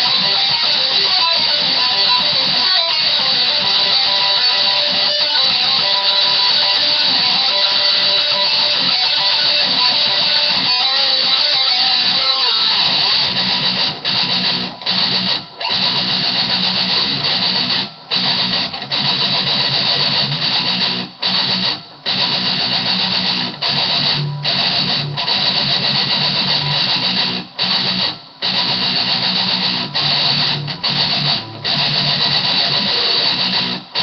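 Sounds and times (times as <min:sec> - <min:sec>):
distorted electric guitar riff: 0:00.0 - 0:34.0.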